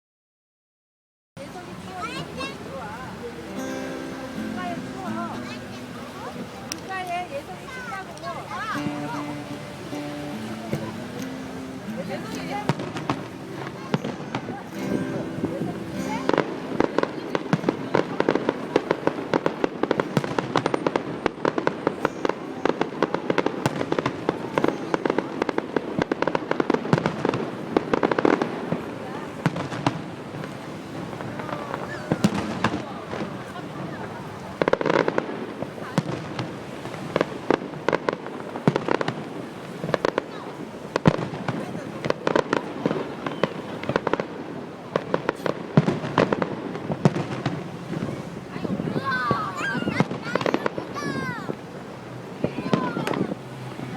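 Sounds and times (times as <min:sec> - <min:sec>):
fireworks bangs and pops: 0:09.9 - 0:53.9.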